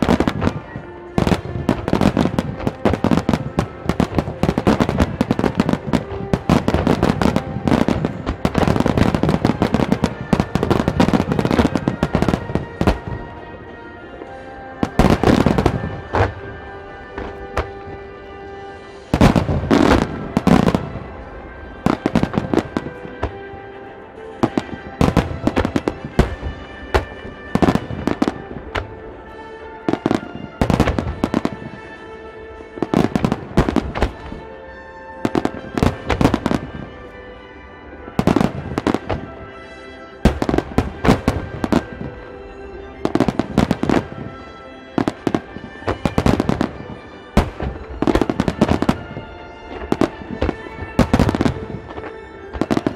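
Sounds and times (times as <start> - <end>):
music playing: 0.0 - 52.9.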